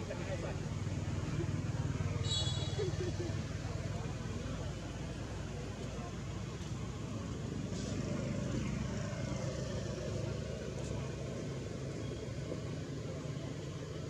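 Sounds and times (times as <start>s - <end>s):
motor vehicle running: 0.0s - 14.0s.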